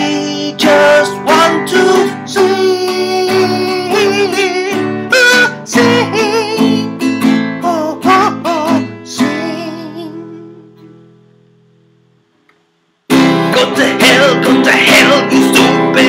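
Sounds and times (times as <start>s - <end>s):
man singing: 0.0s - 10.6s, 13.4s - 16.0s
strummed acoustic guitar: 0.0s - 12.1s, 13.1s - 16.0s.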